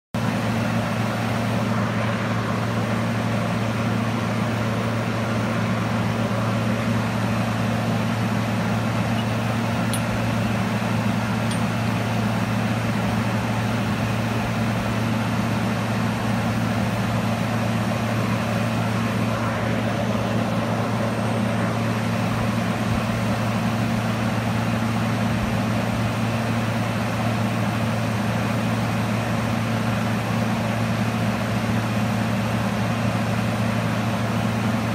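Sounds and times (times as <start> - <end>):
induction heater humming: 0.2 - 28.2.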